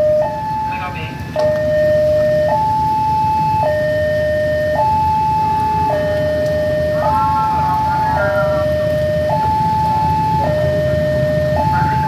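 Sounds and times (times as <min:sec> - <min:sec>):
low steady rumble: 0:00.0 - 0:12.0
two-tone level-crossing alarm: 0:00.0 - 0:12.0.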